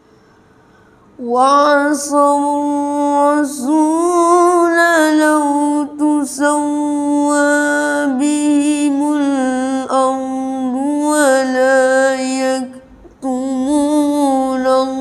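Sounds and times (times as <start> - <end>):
boy reciting melodically: 1.2 - 15.0.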